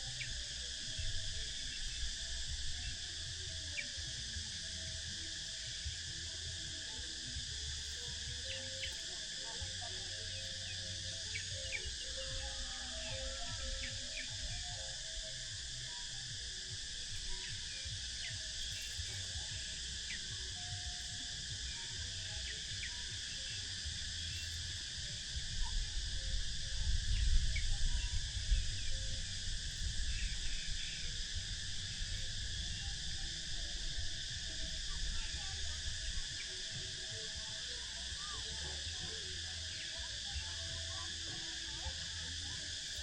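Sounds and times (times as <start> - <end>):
insect chorus: 0.0 - 43.0
wind rumble on microphone: 0.0 - 43.0.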